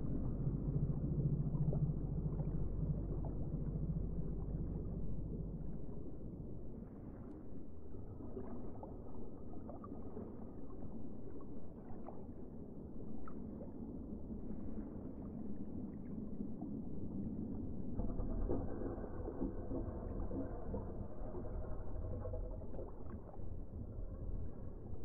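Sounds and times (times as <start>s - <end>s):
underwater water rumble: 0.0s - 25.0s.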